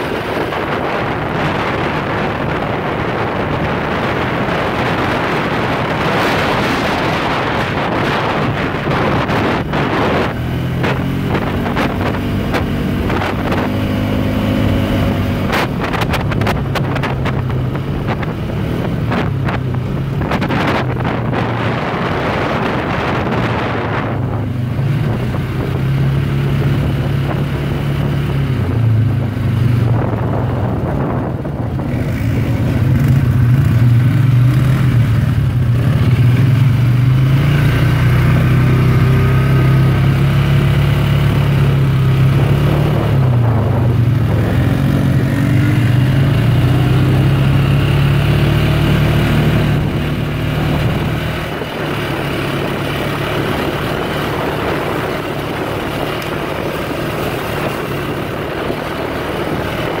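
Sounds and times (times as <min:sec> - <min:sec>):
atv engine running: 0:00.0 - 1:00.0
wind noise: 0:00.0 - 1:00.0.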